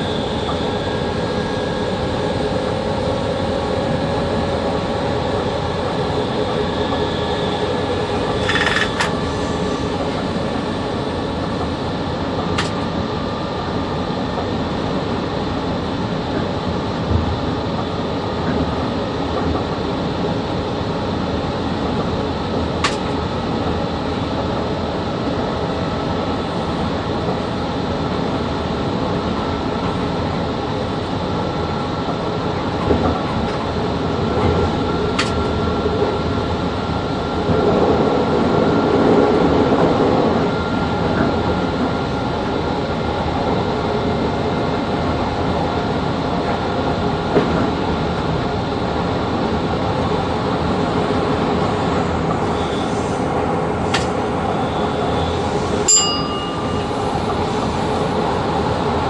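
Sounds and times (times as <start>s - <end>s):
locomotive and wheels rumbling: 0.0s - 59.0s.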